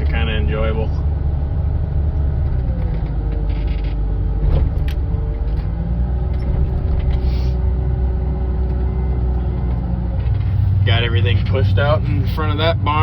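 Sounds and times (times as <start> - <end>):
wheel loader diesel engine running: 0.0 - 13.0.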